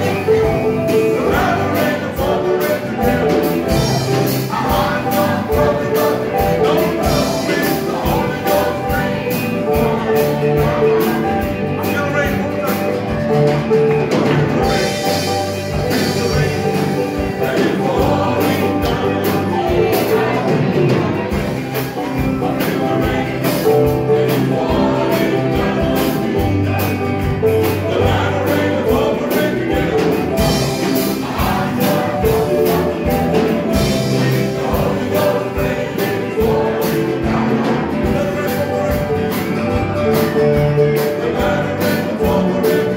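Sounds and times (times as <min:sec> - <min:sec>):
congregation singing: 0:00.0 - 0:42.9
gospel band playing: 0:00.0 - 0:42.9.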